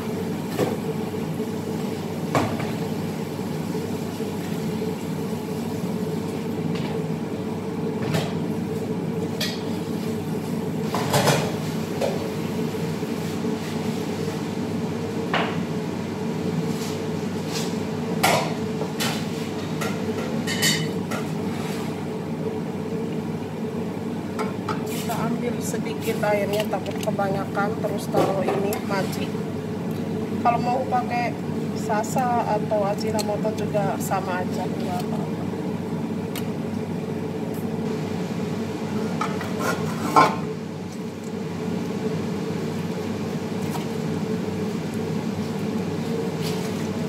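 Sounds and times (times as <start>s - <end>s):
low kitchen hum: 0.0s - 47.0s.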